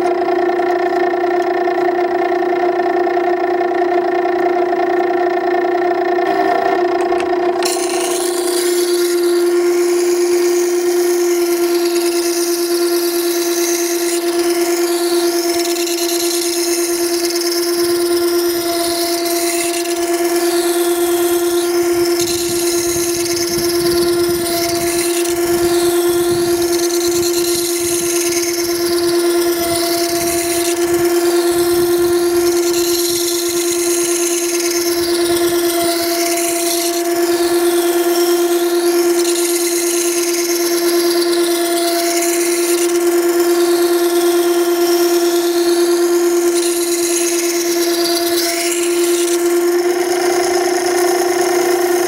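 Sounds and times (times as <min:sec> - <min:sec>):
sharpener motor hum: 0:00.0 - 0:52.0
blade grinding on wet stone: 0:07.6 - 0:52.0.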